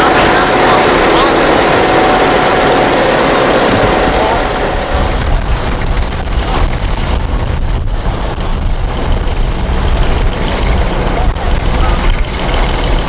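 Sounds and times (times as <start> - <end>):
tractor engine running loud: 0.0 - 13.0.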